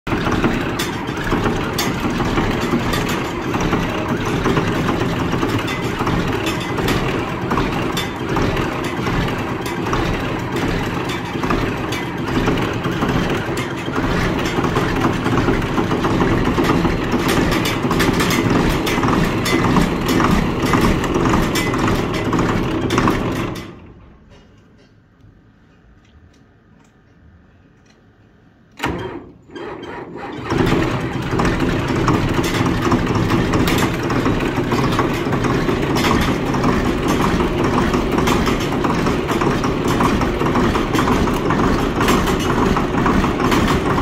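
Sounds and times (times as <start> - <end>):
diesel tractor engine running: 0.1 - 24.4, 28.8 - 44.0.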